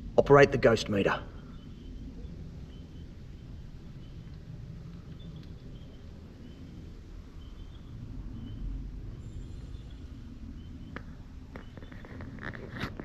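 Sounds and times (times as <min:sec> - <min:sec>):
low wind rumble on microphone: 0:00.0 - 0:13.0.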